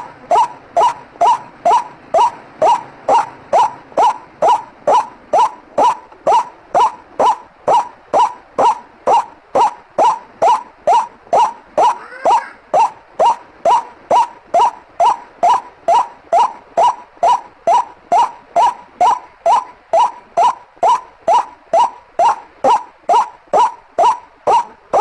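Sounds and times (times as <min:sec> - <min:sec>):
waterhen calling harsh croaks: 0:00.0 - 0:25.0.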